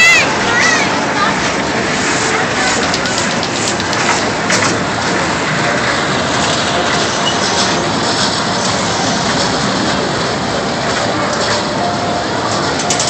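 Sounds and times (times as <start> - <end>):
kiddie train ride running: 0.0 - 13.0.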